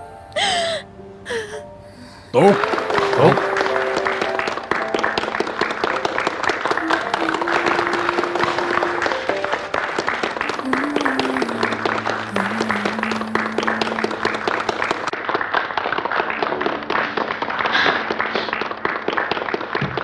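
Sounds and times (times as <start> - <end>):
soft background music: 0.0 - 15.2, 16.3 - 19.4
audience applauding: 2.4 - 20.0.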